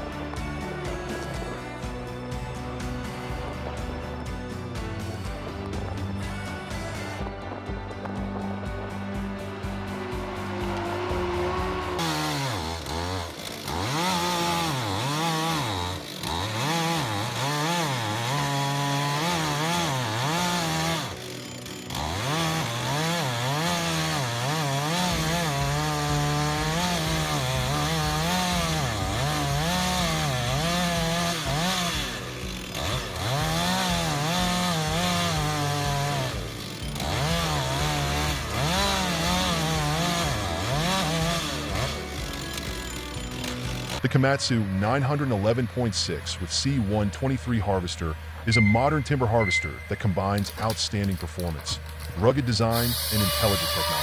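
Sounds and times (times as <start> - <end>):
chainsaw cutting: 0.0 - 54.0.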